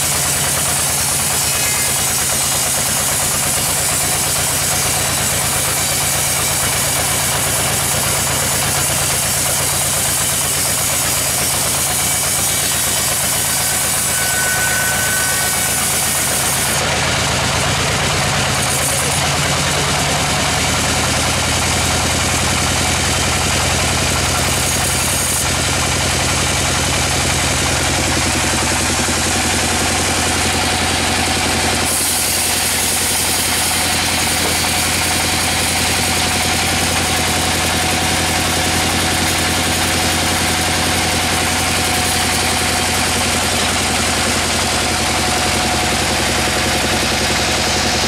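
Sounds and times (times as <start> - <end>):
band saw cutting log: 0.0 - 48.0.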